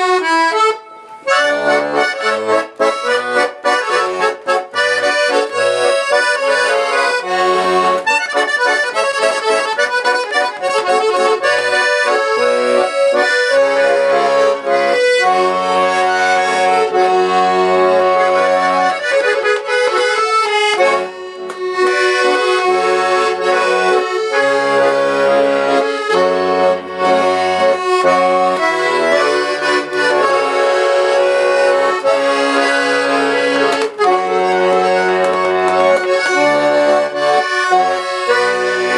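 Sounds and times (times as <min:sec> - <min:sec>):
accordion playing a tune: 0:00.0 - 0:38.9.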